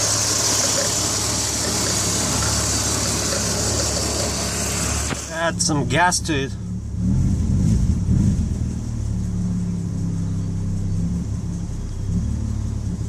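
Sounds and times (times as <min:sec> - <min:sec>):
car engine misfiring: 0:00.0 - 0:13.0.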